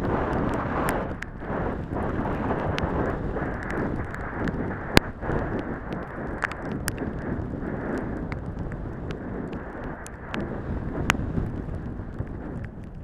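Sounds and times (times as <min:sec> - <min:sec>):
wind rushing past helmet camera: 0:00.0 - 0:13.0.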